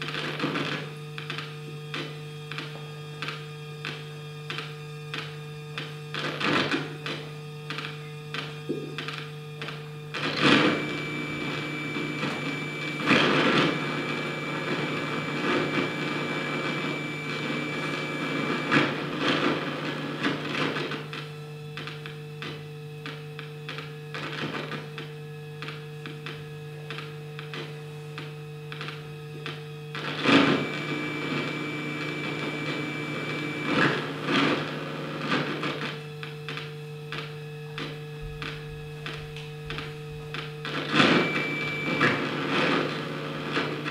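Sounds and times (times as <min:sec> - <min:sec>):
low electronic hum: 0:00.0 - 0:43.9.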